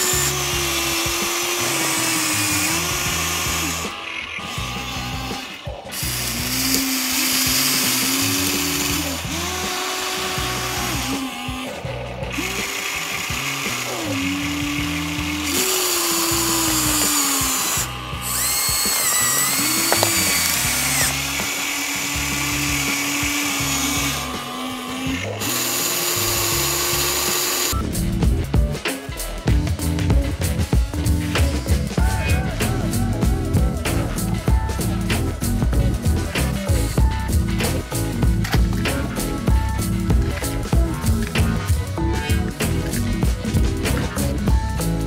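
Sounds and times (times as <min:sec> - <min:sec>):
toy excavator motors whining: 0:00.0 - 0:27.8, 0:31.3 - 0:45.0.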